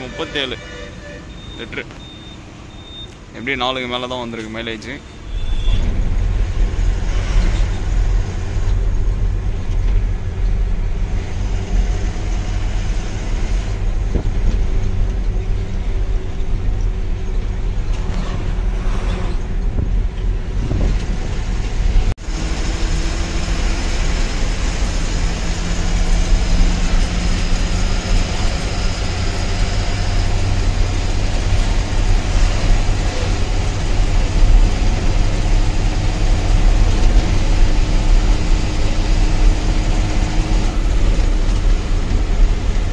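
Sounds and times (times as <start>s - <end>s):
road noise: 0.0s - 42.9s
truck diesel engine: 0.0s - 42.9s.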